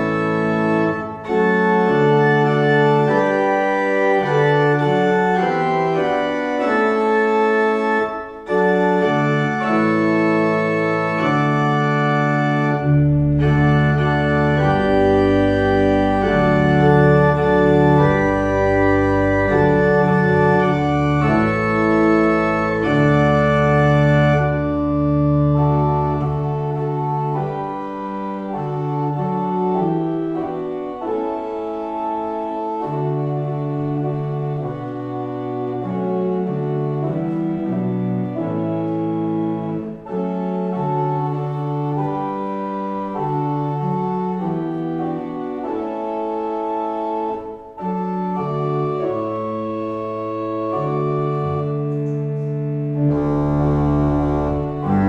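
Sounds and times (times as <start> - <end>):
church organ chords: 0.0 - 55.0
deep organ pedal bass notes: 0.0 - 55.0.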